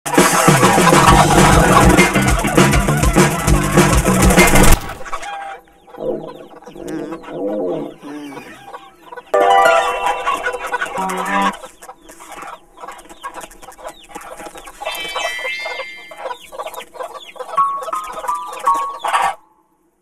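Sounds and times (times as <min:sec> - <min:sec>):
cartoon hens clucking and squawking: 0:00.1 - 0:19.4.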